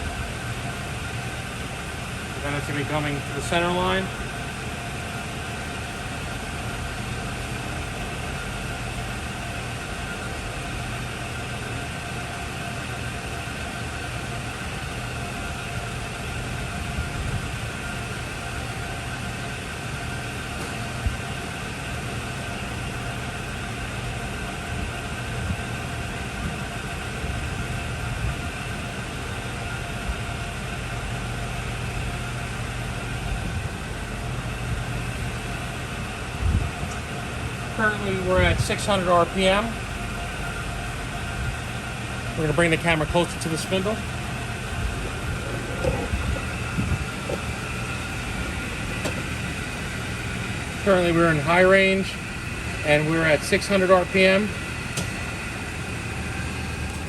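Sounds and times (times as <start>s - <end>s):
lathe running with whine: 0.0s - 57.0s.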